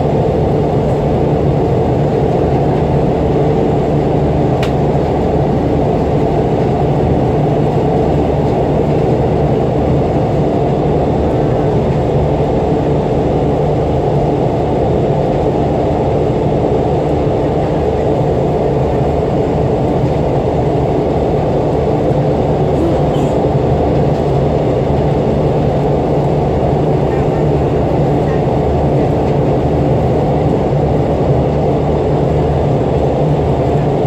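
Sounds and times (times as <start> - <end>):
railcar running drone: 0.0 - 34.0.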